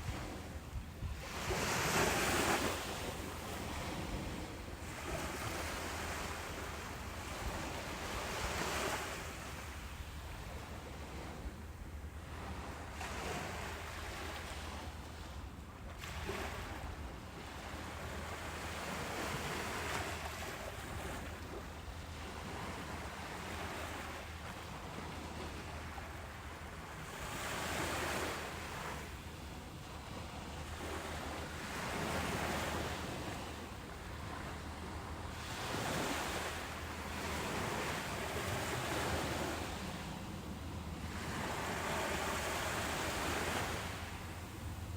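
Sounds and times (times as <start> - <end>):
waves breaking on a beach: 0.0 - 44.9.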